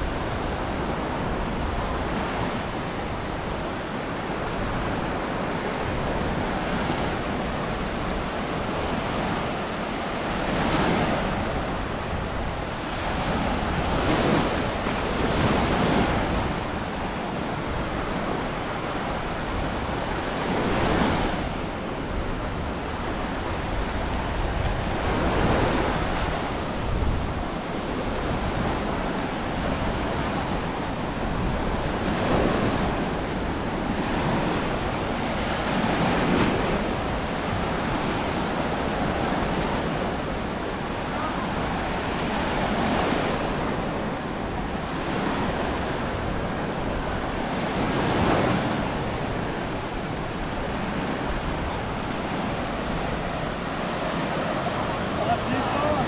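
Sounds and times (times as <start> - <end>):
sea waves breaking on beach: 0.0 - 56.0
wind buffeting microphone: 0.0 - 56.0.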